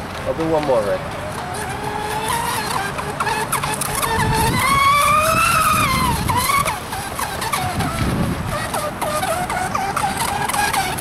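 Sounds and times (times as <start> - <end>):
model boat motor whining: 0.0 - 11.0.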